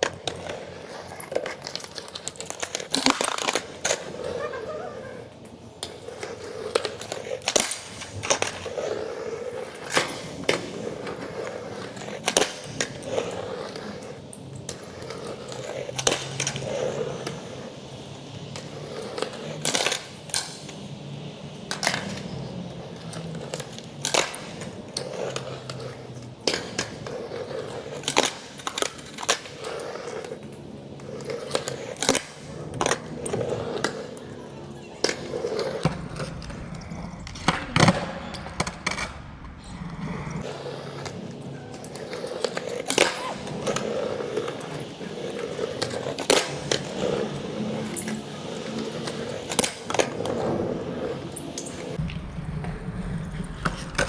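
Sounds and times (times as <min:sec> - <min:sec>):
skateboard clacking on ground: 0:00.0 - 0:54.0
skateboard wheels rolling on stone: 0:00.0 - 0:54.0.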